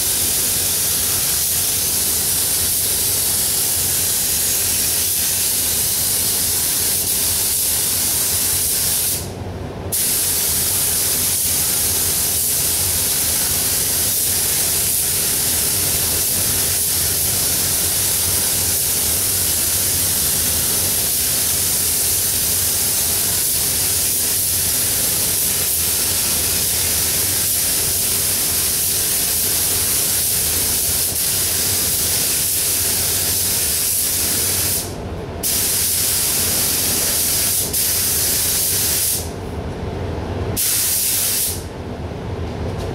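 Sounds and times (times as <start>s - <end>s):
paint spray gun hissing: 0.0s - 9.3s, 9.9s - 39.3s, 40.6s - 41.7s.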